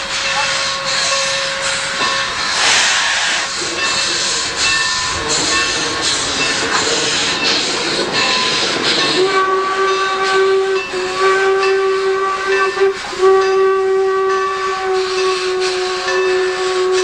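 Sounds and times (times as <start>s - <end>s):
steam hissing: 0.0s - 17.0s
steam locomotive whistle: 0.0s - 17.0s.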